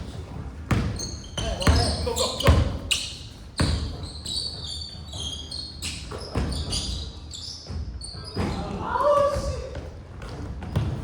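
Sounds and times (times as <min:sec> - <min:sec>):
sneakers squeaking on court: 0:00.0 - 0:09.5, 0:10.2 - 0:11.0
basketball bouncing on gym floor: 0:00.1 - 0:05.3, 0:06.0 - 0:11.0.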